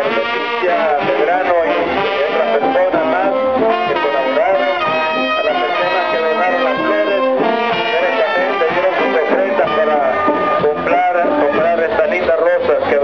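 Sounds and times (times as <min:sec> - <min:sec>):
marching brass band playing: 0:00.0 - 0:13.0.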